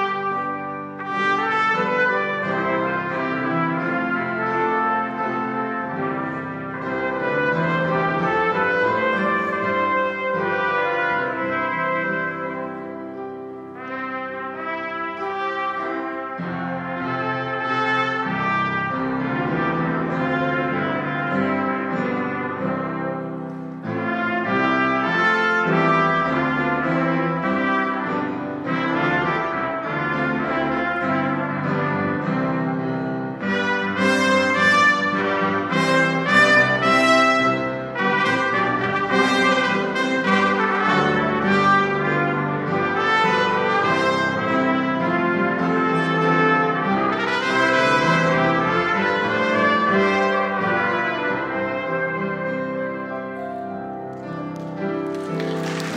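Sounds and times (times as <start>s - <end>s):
piano accompaniment: 0.0s - 55.9s
trumpets playing hymn-like melody: 0.0s - 55.9s.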